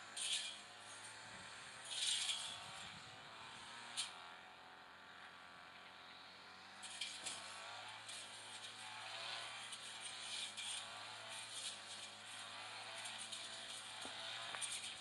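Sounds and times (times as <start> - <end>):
blade cutting grass: 0.0 - 15.0
distant brush cutter engine: 0.0 - 15.0.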